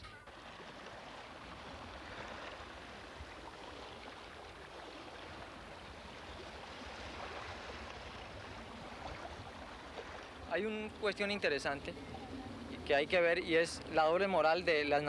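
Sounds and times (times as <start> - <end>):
small waves lapping: 0.1 - 15.0.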